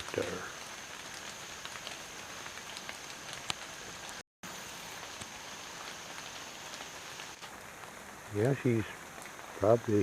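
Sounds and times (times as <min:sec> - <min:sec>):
light rain pattering on foliage: 0:00.0 - 0:10.0.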